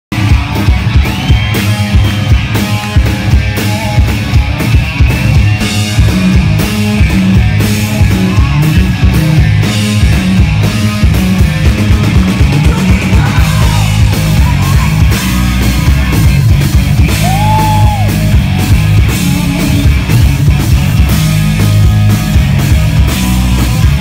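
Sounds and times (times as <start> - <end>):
drum kit beat with cymbals: 0.1 - 24.0
live rock band playing: 0.1 - 24.0.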